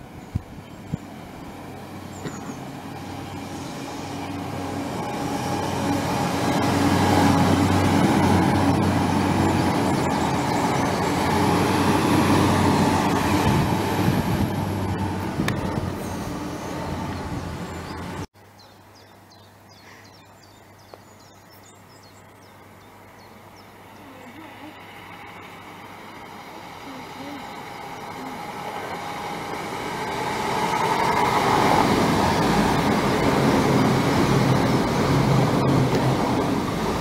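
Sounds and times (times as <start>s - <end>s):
train rumbling past: 0.0s - 18.3s, 22.5s - 37.0s.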